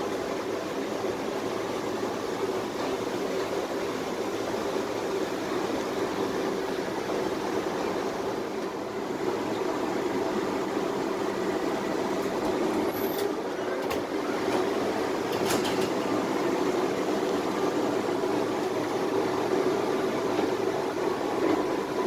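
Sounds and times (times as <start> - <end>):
tram running from inside: 0.0 - 22.0.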